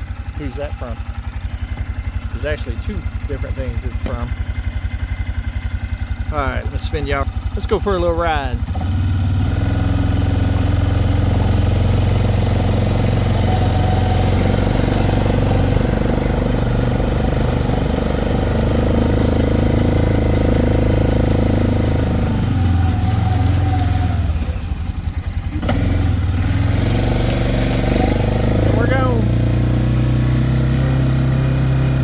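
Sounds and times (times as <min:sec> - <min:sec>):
atv engine idling: 0:00.0 - 0:32.0.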